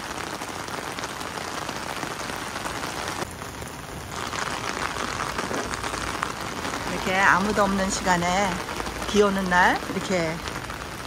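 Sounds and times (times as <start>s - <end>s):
heavy rain on concrete: 0.0s - 11.0s.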